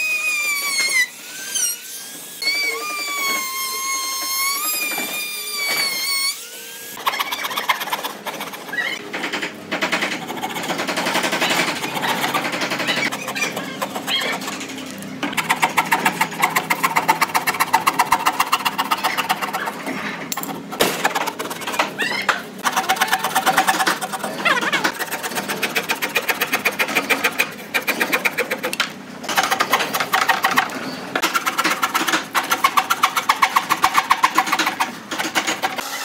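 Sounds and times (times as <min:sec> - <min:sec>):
scroll saw cutting wood: 0:00.0 - 0:36.0.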